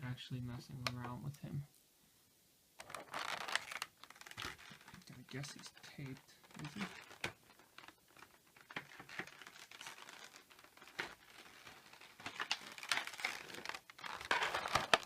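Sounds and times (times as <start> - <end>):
plastic packaging crinkling: 2.8 - 15.0.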